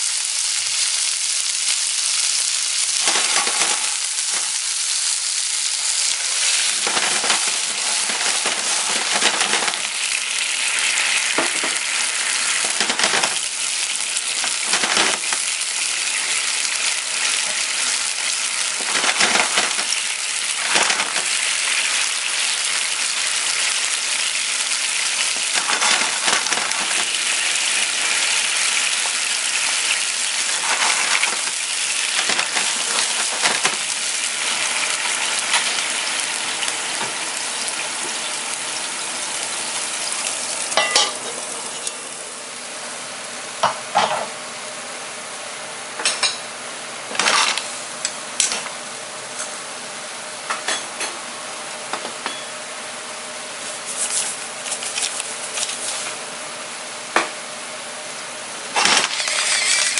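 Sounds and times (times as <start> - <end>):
clams sizzling in frying pan: 0.0 - 44.5, 45.1 - 49.0, 50.7 - 59.9.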